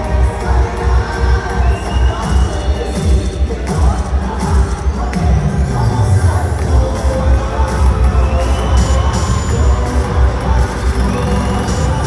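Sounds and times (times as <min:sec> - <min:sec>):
crowd cheering: 0:00.0 - 0:12.0
music with heavy bass beat: 0:00.0 - 0:12.0.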